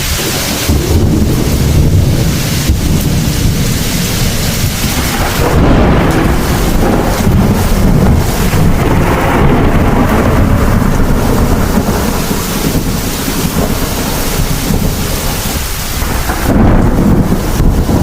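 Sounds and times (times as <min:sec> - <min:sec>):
heavy rain: 0:00.0 - 0:18.0
low rolling thunder: 0:00.0 - 0:18.0.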